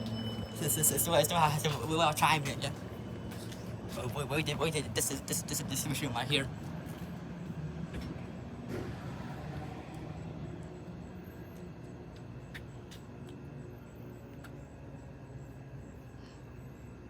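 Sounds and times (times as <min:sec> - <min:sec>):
elevator machine humming: 0:00.0 - 0:17.0.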